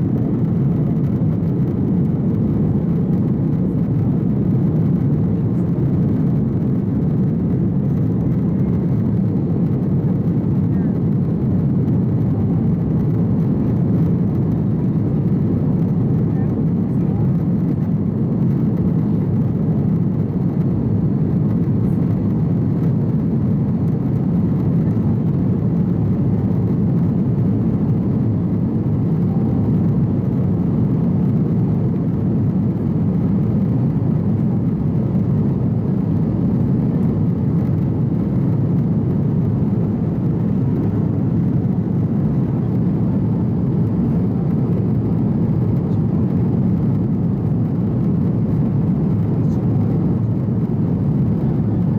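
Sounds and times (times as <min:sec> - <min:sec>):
jet engine cabin drone: 0:00.0 - 0:51.9.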